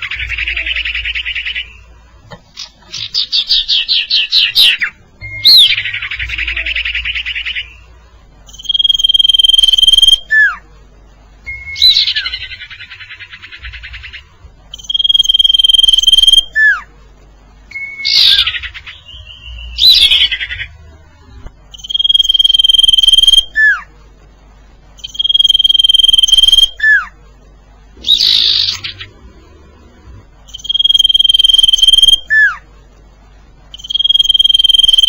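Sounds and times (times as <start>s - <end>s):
recorded bird call: 0.0s - 10.8s, 11.4s - 17.0s, 17.6s - 24.0s, 24.8s - 27.3s, 27.9s - 32.8s, 33.6s - 35.0s.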